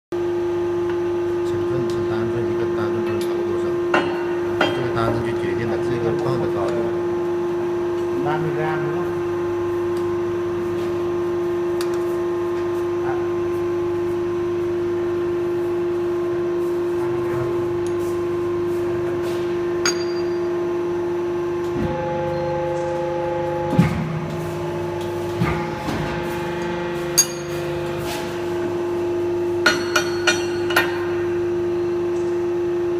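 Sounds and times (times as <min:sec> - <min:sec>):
hydraulic press humming: 0:00.8 - 0:08.2, 0:09.4 - 0:32.9.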